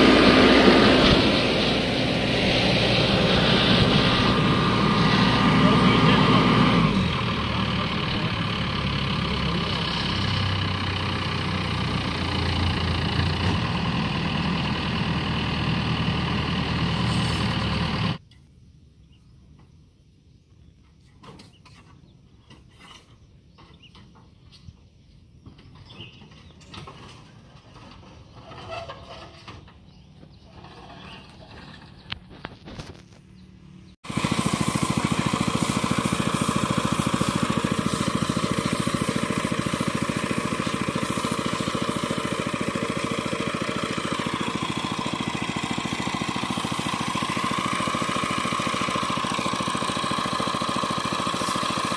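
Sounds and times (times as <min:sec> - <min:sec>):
engine running: 0:00.0 - 0:18.2, 0:26.7 - 0:51.9.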